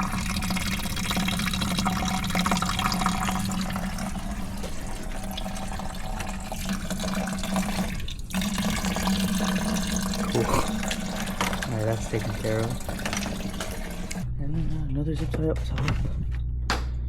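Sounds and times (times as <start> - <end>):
coolant splashing into bucket: 0.0 - 14.2.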